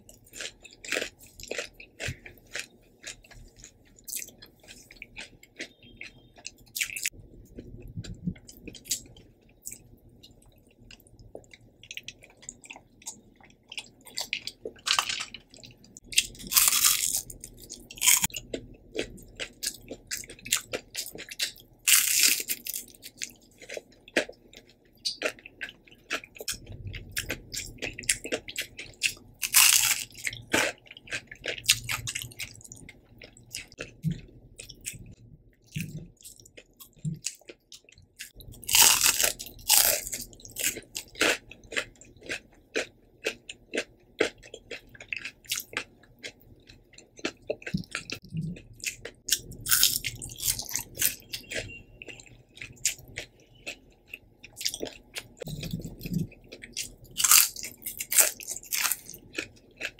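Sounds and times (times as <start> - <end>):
crackly chewing: 0.0 - 59.9
crunching bites of fried shrimp: 0.2 - 7.2, 12.0 - 33.9, 38.2 - 51.7, 52.6 - 59.9.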